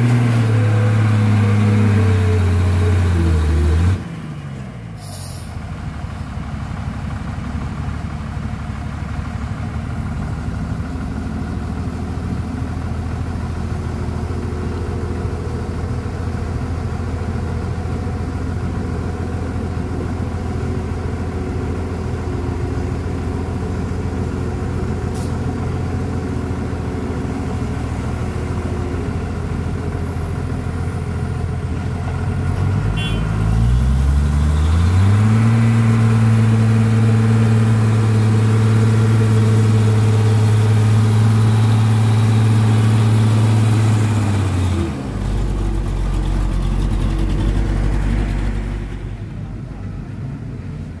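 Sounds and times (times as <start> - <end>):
dump truck engine revving: 0.0 - 49.6
diesel engines idling: 0.0 - 51.0.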